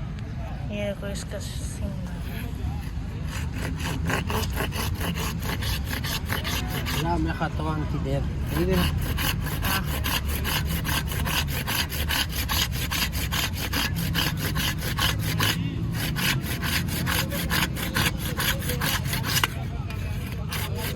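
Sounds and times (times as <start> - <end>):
fast rasping strokes: 2.3 - 20.9.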